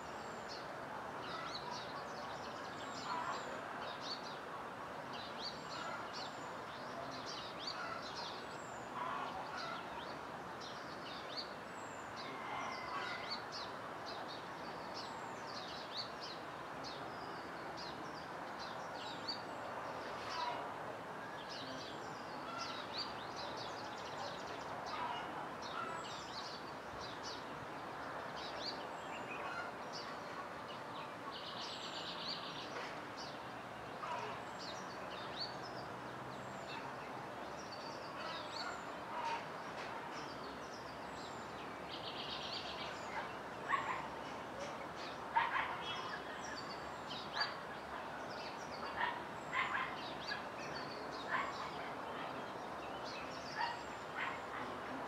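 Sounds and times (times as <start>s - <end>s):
steady background hiss: 0.0s - 55.0s
small birds chirping: 5.1s - 55.0s.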